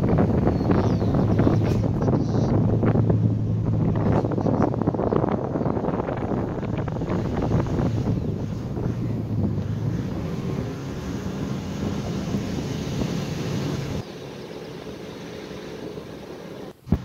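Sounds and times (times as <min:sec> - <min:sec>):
tyres on gravel road: 0:00.0 - 0:17.0
vehicle engine humming: 0:00.0 - 0:17.0.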